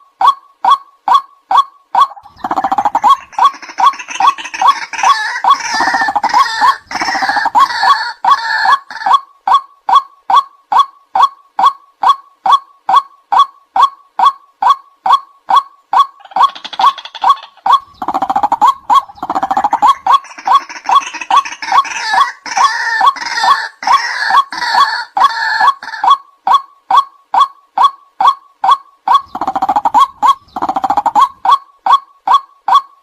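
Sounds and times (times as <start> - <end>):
harsher fuller bird calling: 0.2 - 32.8.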